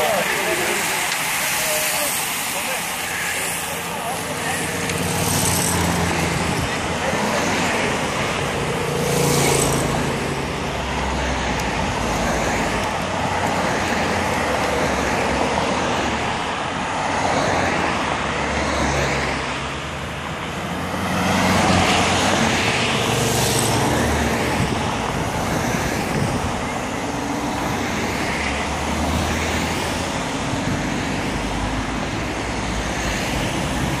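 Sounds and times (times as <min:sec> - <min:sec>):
cars driving past: 0:00.0 - 0:34.0
tyres on the road: 0:00.0 - 0:34.0.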